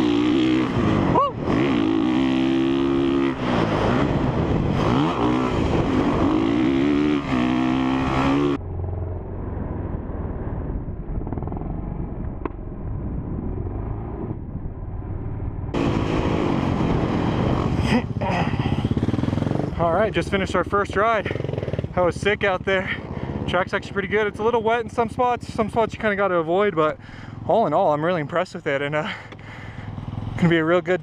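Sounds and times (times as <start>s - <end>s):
motorcycle engine revving: 0.0s - 27.7s, 29.0s - 30.6s.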